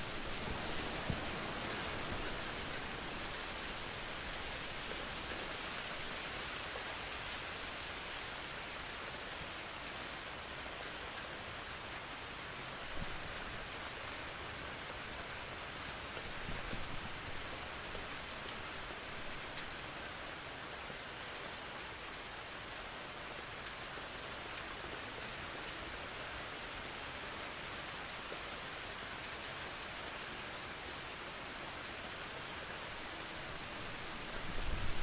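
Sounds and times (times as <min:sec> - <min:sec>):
rain pattering: 0:00.0 - 0:35.0
rain spatters: 0:00.0 - 0:35.0.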